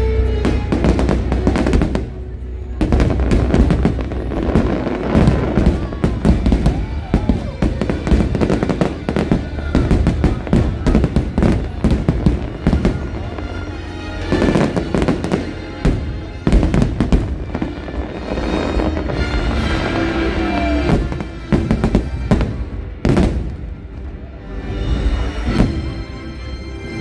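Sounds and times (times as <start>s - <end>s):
music playing: 0.0s - 27.0s
fireworks bangs and crackles: 0.2s - 27.0s.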